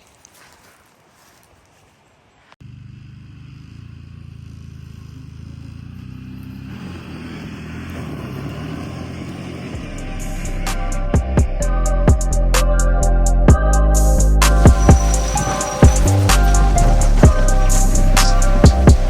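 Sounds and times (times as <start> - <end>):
atv engine running: 2.6 - 19.0.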